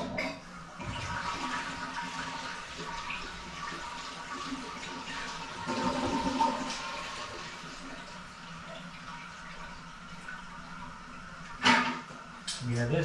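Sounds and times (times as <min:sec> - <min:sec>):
toilet flushing: 0:00.0 - 0:13.0.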